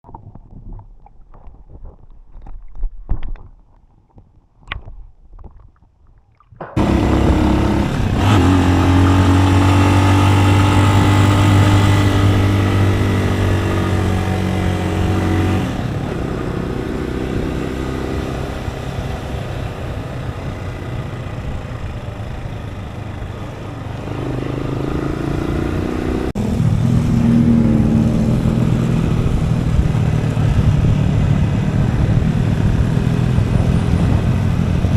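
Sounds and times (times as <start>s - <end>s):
engine running: 6.8s - 34.9s.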